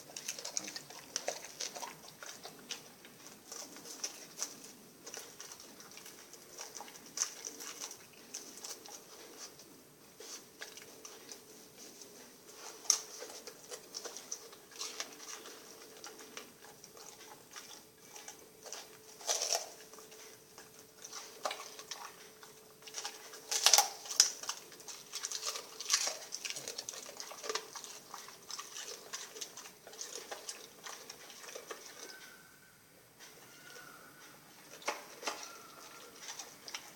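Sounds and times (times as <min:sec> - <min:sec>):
dog chewing and smacking: 0:00.0 - 0:32.5, 0:33.2 - 0:36.9.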